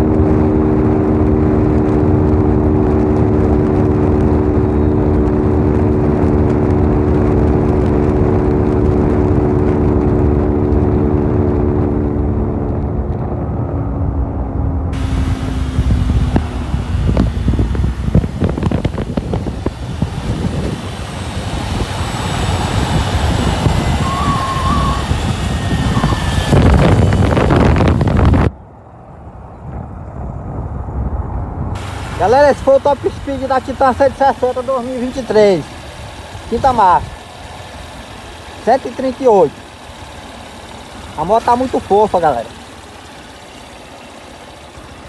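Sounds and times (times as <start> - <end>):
motorcycle engine at high revs: 0.0 - 28.5, 31.8 - 45.0
wind buffeting microphone: 0.0 - 38.6
wind rush: 0.0 - 38.6.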